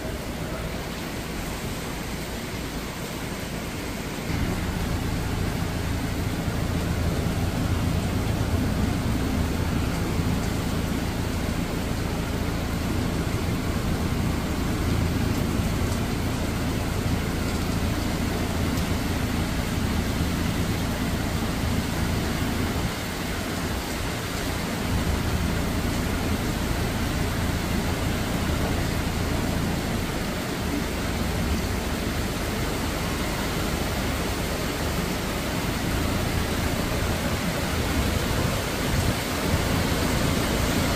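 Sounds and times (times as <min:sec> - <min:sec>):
deep rumble of wind: 0:00.0 - 0:40.9
rain hissing on foliage: 0:00.0 - 0:40.9.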